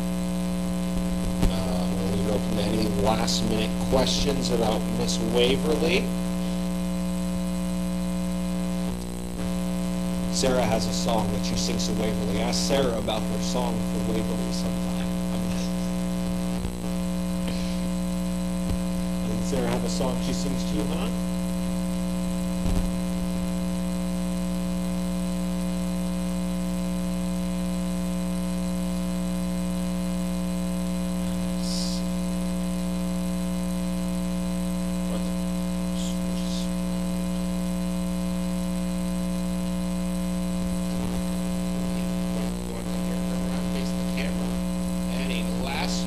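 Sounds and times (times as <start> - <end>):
electrical mains hum: 0.0 - 46.0.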